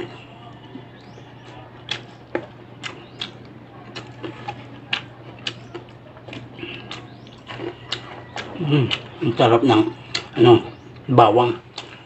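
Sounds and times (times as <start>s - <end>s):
person eating with clicks and smacks: 0.0s - 12.0s
steady low hum: 0.0s - 12.0s.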